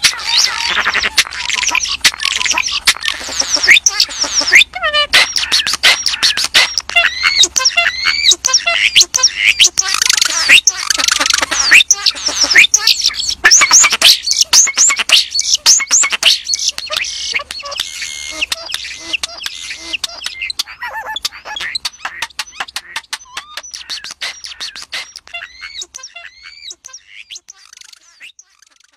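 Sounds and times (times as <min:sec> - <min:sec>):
songbird trilling and whistling: 0:00.0 - 0:28.9.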